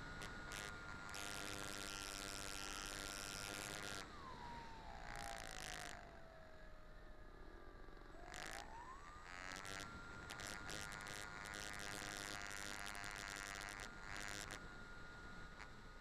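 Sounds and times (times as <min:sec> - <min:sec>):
model plane engine whining: 0:00.0 - 0:16.0.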